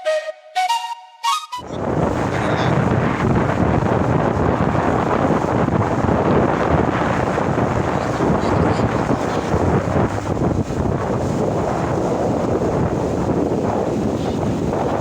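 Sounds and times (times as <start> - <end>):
wind buffeting microphone: 1.6 - 15.0.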